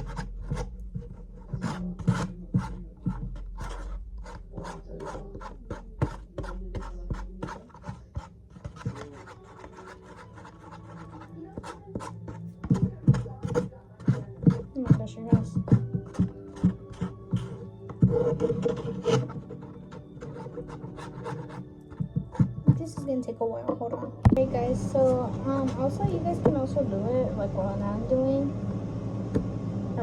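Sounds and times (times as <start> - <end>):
spoon stirring slime: 0.0 - 26.6.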